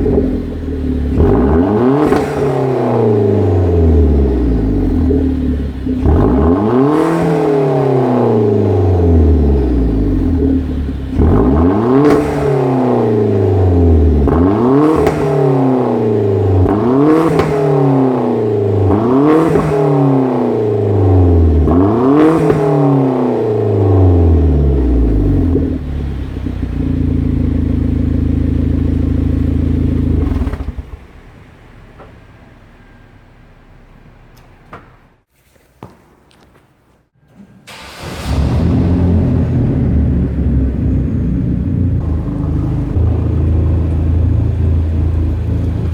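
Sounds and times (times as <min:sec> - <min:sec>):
car engine revving: 0:00.0 - 0:34.0, 0:37.7 - 0:45.9
car engine idling: 0:00.0 - 0:34.7, 0:37.7 - 0:45.9.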